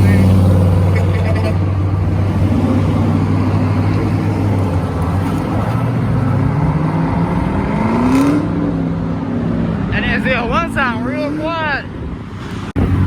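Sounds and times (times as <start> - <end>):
car engine accelerating: 0.0 - 11.4.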